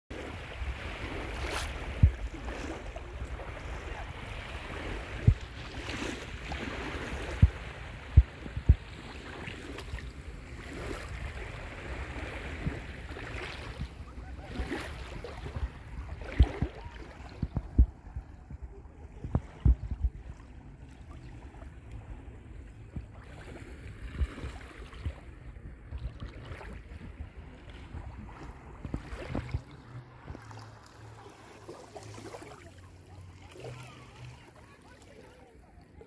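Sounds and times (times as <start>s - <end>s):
small waves on sandy shore: 0.1s - 36.0s.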